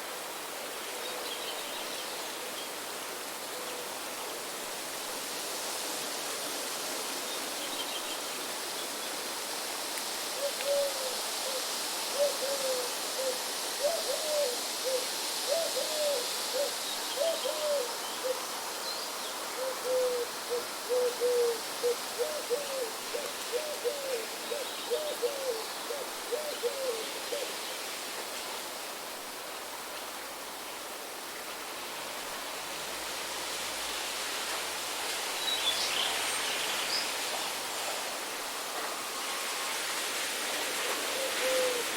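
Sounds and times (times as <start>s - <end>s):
wind and rain: 0.0s - 41.9s.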